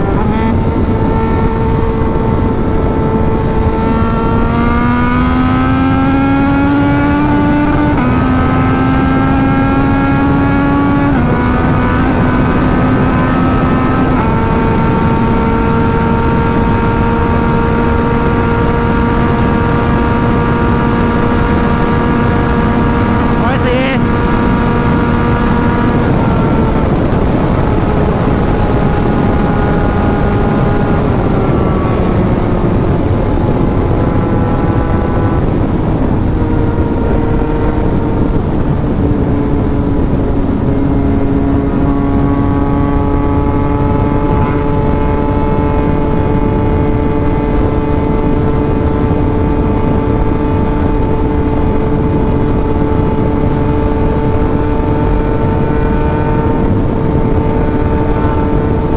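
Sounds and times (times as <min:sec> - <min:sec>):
motorcycle engine at high speed: 0:00.0 - 0:58.9
wind noise: 0:00.0 - 0:58.9.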